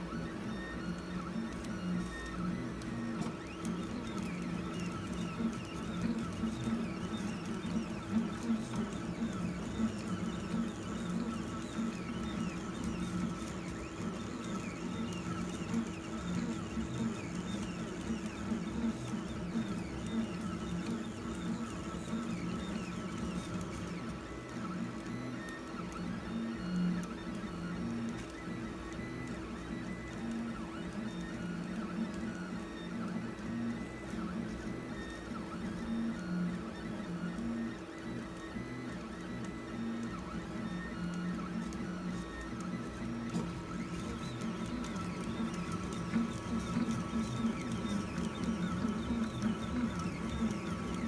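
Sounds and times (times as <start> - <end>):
stepper motors whirring: 0.2 - 51.0.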